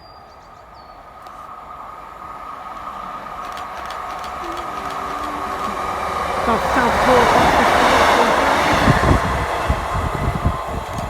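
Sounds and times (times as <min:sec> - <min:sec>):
diesel train approaching: 0:01.0 - 0:11.0
train engine whine: 0:01.2 - 0:11.0.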